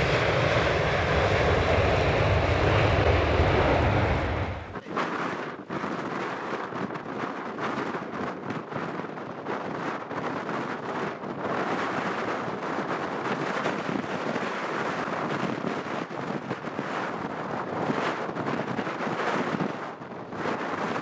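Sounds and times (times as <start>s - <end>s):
storm wind gusting: 0.0s - 21.0s.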